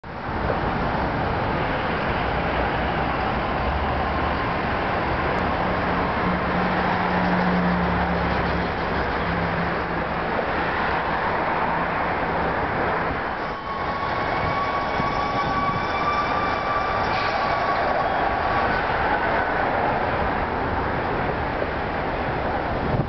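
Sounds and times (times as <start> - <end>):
city road traffic: 0.0 - 23.0
vehicle engine drone: 1.6 - 22.7.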